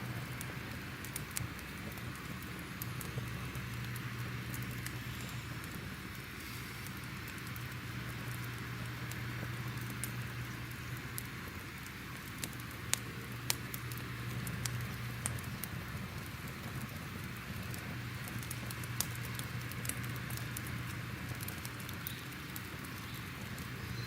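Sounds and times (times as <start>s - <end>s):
crackling fire: 0.0s - 24.0s
sharp pops of fire: 0.0s - 24.0s.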